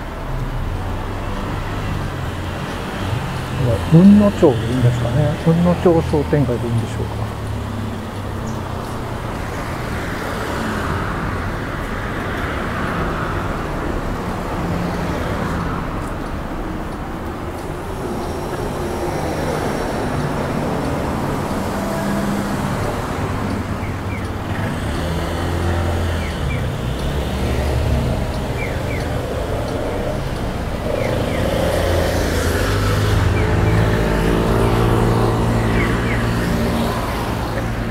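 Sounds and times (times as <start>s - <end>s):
cars driving past: 0.0s - 37.9s.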